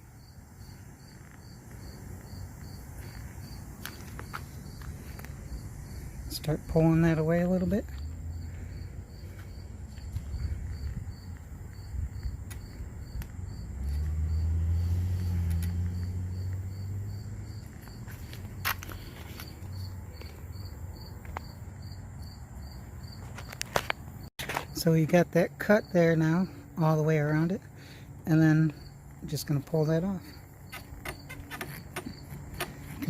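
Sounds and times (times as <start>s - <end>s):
insect chirping: 0.0s - 33.0s.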